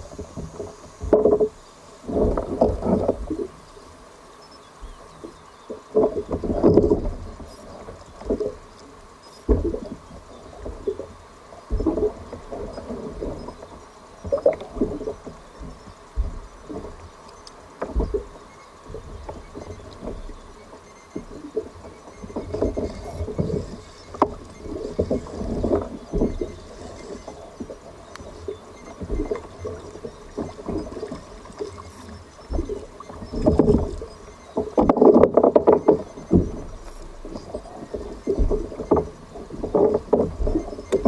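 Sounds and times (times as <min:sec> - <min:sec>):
water splashing around kayak: 0:00.0 - 0:41.0.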